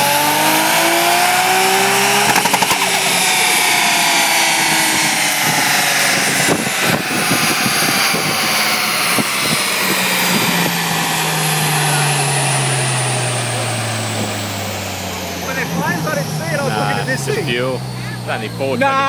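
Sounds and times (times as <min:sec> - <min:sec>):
dyno rollers spinning down: 0:00.0 - 0:19.0
engine winding down on dyno: 0:00.0 - 0:19.0
exhaust popping: 0:00.0 - 0:19.0.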